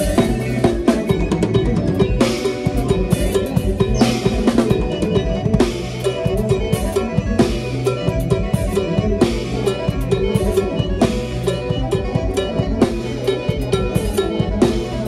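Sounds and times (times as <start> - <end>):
drum kit fast beat: 0.0 - 15.0
electronic keyboards: 0.0 - 15.0.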